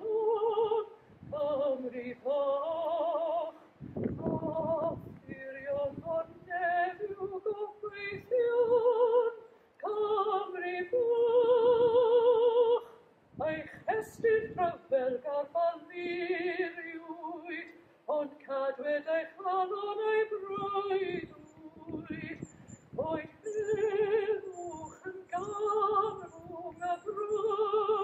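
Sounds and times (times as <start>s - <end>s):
woman singing unaccompanied: 0.0s - 28.0s.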